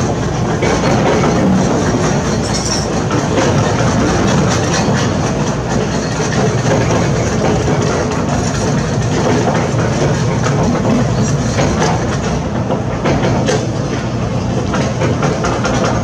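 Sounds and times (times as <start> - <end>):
diesel engine drone: 0.0 - 13.4
machinery clanks and rattles: 0.0 - 16.0.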